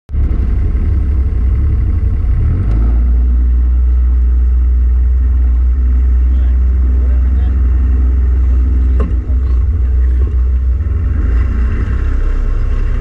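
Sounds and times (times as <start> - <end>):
boat motor humming: 0.1 - 13.0.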